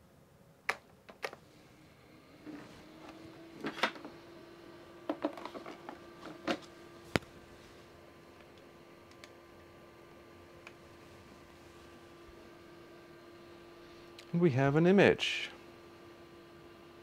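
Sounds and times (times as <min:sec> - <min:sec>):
computer hum: 0:01.4 - 0:17.0.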